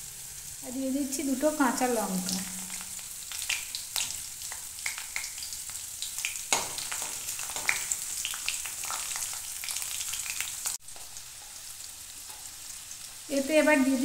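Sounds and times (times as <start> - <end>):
hot oil sizzling and crackling: 0.0 - 14.0.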